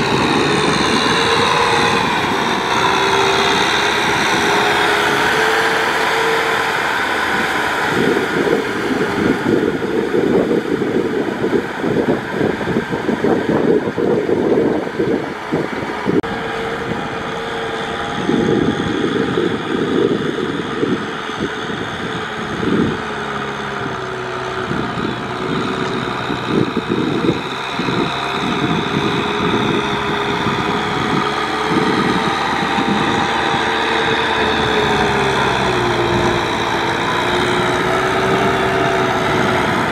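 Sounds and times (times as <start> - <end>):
tractor diesel engine running: 0.0 - 39.9
wind buffeting microphone: 0.0 - 39.9.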